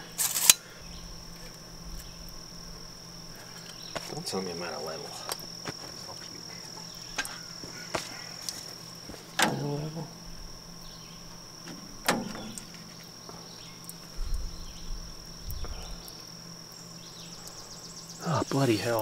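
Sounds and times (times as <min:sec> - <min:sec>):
insect trill: 0:00.0 - 0:19.0
handling ticks: 0:01.3 - 0:19.0.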